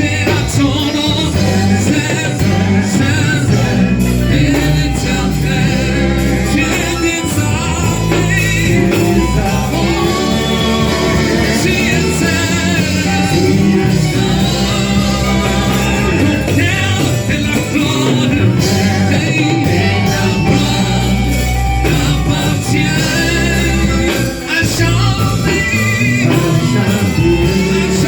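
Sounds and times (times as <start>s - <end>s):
person singing: 0.0s - 28.0s
worship band music: 0.0s - 28.0s.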